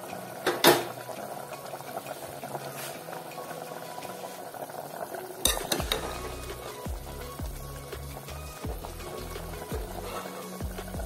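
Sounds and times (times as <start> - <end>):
stew boiling in a metal pot: 0.0 - 11.0.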